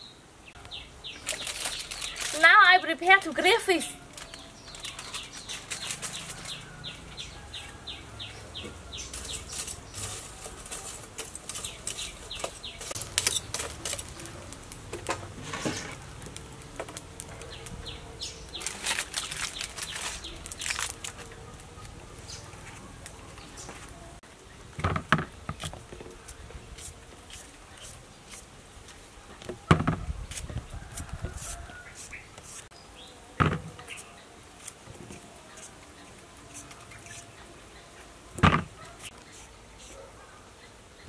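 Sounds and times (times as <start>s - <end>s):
charcoal fire crackling: 0.5s - 41.0s.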